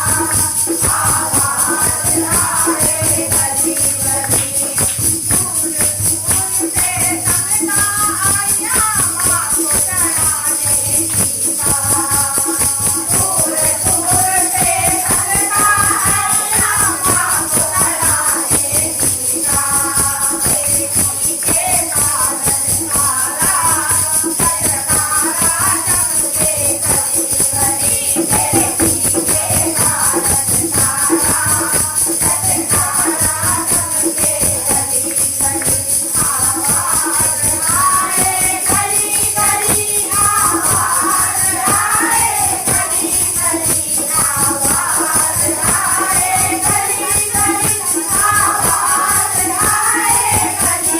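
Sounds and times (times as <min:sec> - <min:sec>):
person singing: 0:00.0 - 0:50.9
tambourine jingling: 0:00.0 - 0:50.9.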